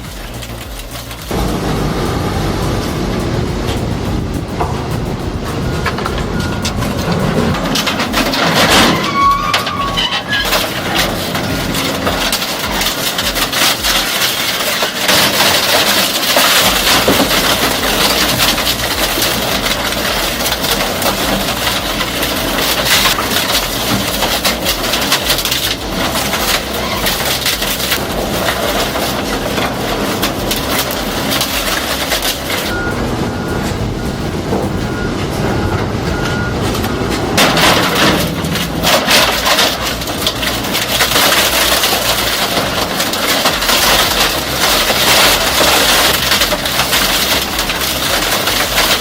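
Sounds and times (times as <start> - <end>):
industrial shredder tearing wood: 0.0 - 49.0.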